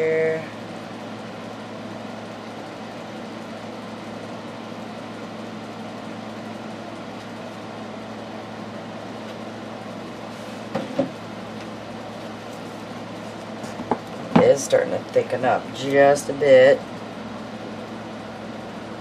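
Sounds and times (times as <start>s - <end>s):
room hum and hiss: 0.0s - 19.0s.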